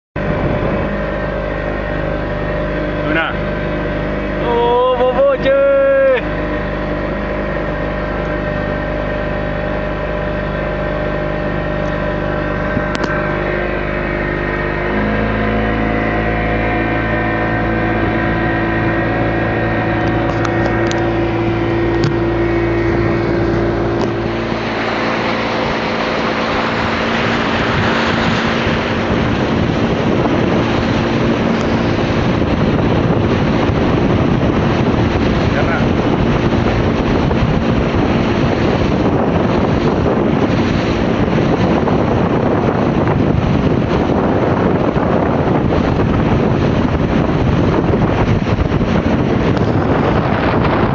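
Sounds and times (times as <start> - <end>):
motorboat engine running: 0.0 - 50.9
rushing water and wind: 0.2 - 50.9.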